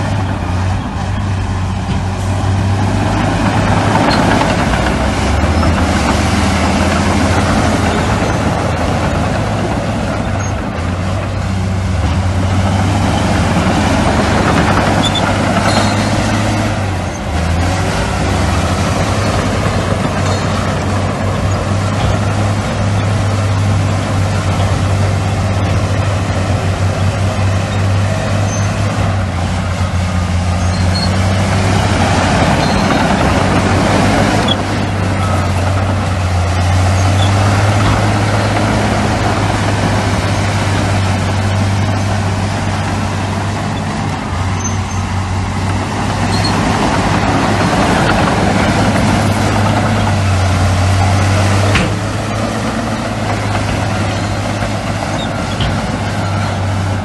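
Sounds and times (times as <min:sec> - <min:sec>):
heavy diesel engine humming: 0:00.0 - 0:57.0.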